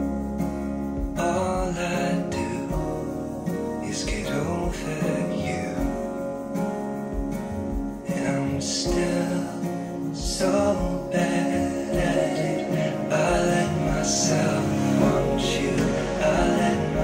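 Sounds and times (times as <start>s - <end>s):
slow pop ballad: 0.0s - 17.0s
person singing: 1.0s - 7.3s, 7.9s - 17.0s.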